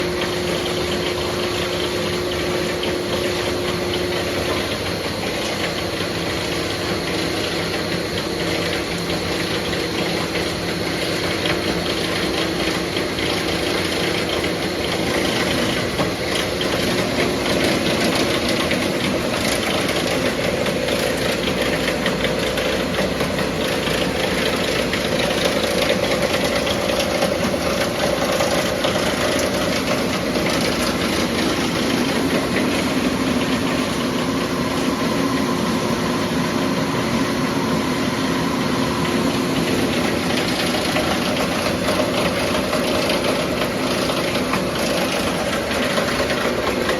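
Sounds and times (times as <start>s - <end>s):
factory machinery drone: 0.0s - 46.9s.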